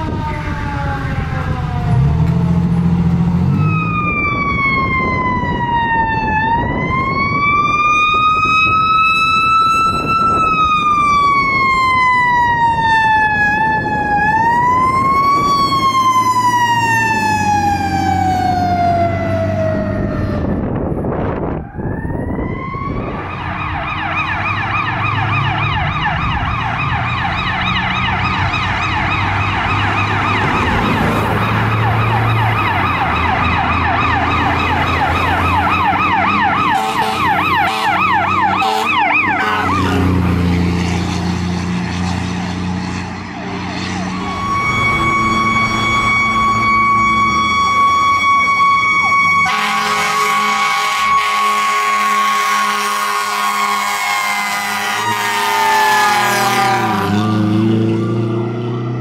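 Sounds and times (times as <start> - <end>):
siren yelping: 0.0 - 2.7, 3.4 - 41.0, 43.4 - 58.6
low engine drone: 0.0 - 7.6, 8.6 - 52.2
siren wailing: 0.0 - 59.0.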